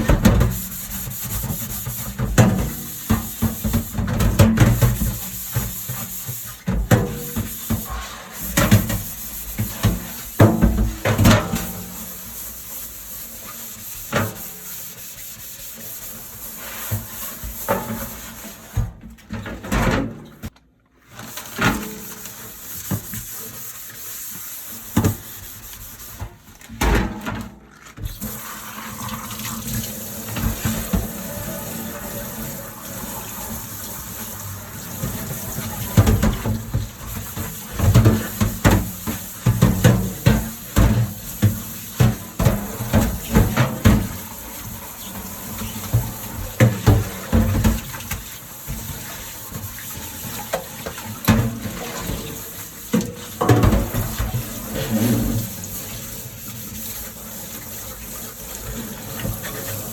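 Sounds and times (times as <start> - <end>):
tap water running: 0.0 - 19.0, 21.2 - 59.9.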